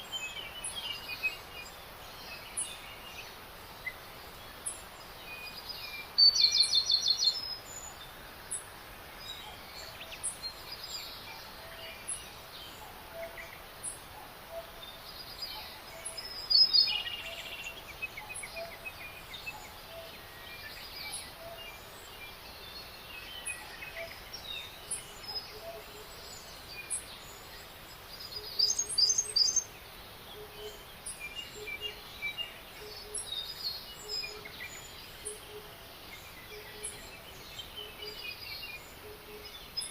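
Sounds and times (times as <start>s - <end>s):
songbirds singing and chirping: 0.0s - 39.9s
steady background hiss: 0.0s - 39.9s.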